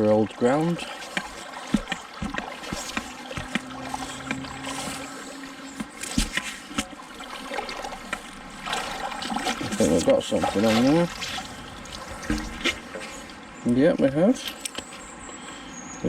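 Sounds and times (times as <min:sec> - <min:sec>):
river water sloshing around feet: 0:00.0 - 0:13.6
steady low hum: 0:00.0 - 0:16.0.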